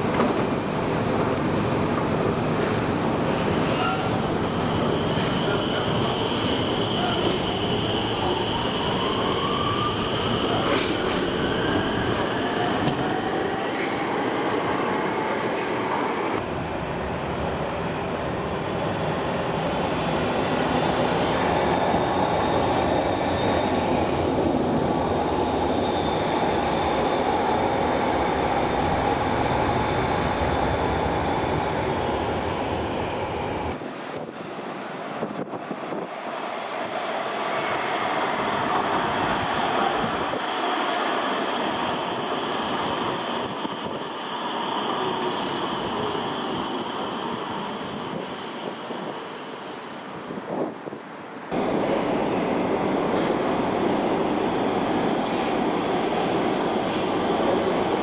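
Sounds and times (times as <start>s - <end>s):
electric train running on tracks: 0.0s - 58.0s.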